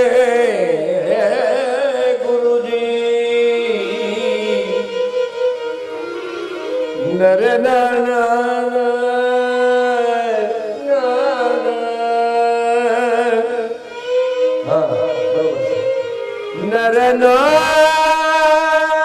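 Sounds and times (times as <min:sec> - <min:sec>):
devotional singing: 0:00.0 - 0:05.1, 0:07.0 - 0:13.9, 0:14.6 - 0:19.0
instrumental accompaniment: 0:00.0 - 0:19.0.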